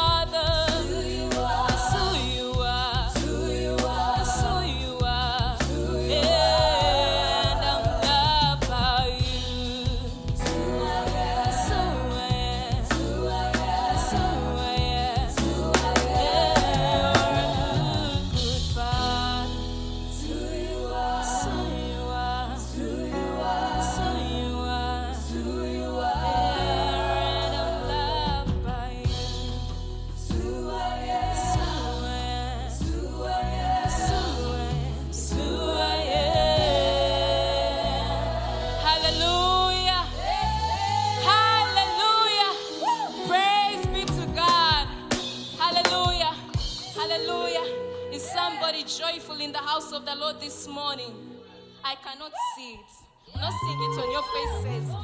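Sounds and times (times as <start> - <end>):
keyboard and bass accompaniment: 0.0 - 51.3.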